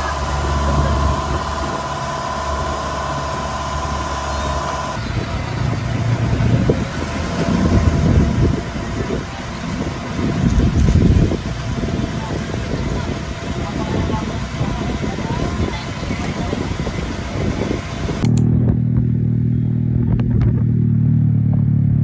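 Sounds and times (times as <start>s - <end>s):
boat engine running: 0.0s - 22.0s
uneven low rumble: 0.0s - 22.0s.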